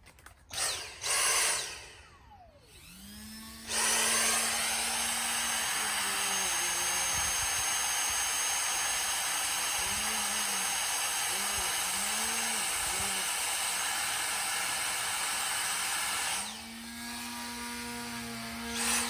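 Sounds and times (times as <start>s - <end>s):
rotary tool with wire brush: 0.0s - 19.0s.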